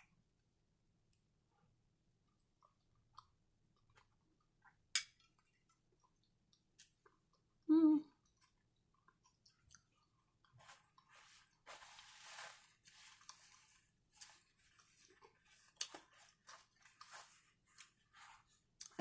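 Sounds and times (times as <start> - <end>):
chewing food: 2.3 - 11.6, 12.8 - 19.0.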